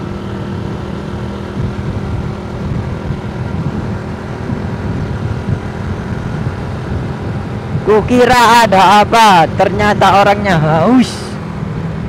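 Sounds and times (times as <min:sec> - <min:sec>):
motorcycle engine cruising: 0:00.0 - 0:12.0
road rumble: 0:00.0 - 0:12.0
wind: 0:00.0 - 0:12.0.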